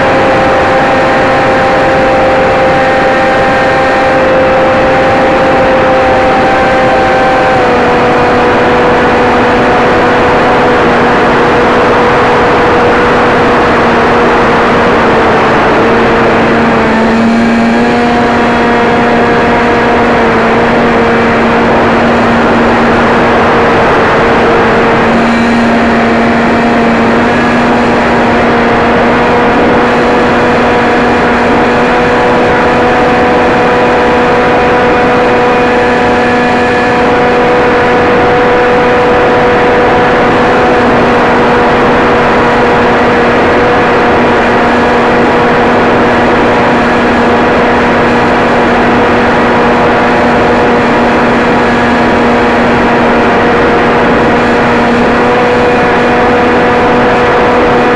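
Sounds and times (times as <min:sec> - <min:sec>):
model aircraft motor drone: 0:00.0 - 0:57.9
wind rush: 0:00.0 - 0:57.9.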